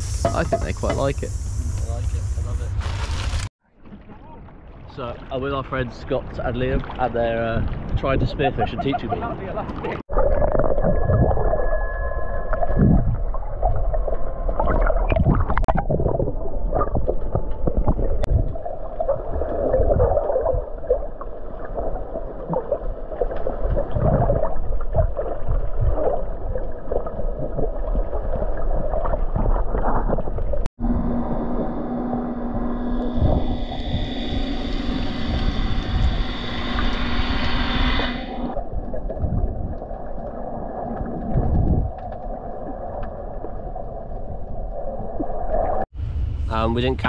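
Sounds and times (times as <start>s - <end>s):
muffled underwater rush: 0.0s - 47.0s.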